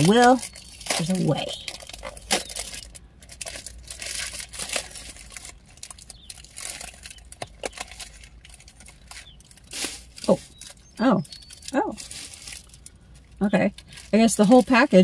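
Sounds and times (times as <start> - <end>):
candy wrapper crinkling: 0.0 - 15.0.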